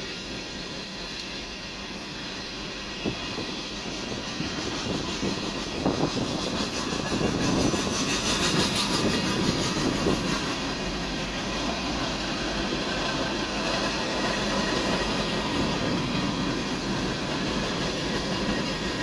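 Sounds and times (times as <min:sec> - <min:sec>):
train rumble with rail clatter: 0:00.0 - 0:19.0.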